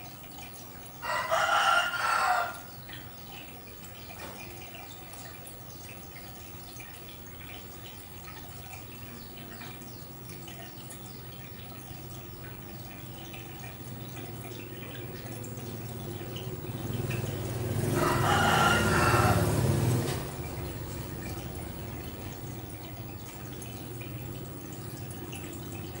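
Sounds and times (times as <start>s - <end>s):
water dripping and trickling: 0.0s - 26.0s.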